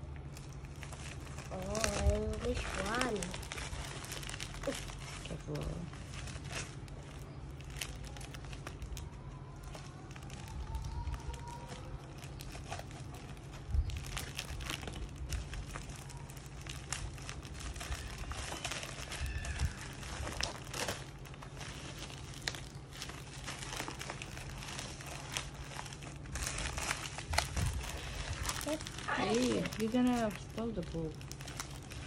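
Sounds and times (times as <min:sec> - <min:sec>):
envelope crinkling and tearing: 0:00.0 - 0:32.0
steady low hum: 0:00.0 - 0:32.0.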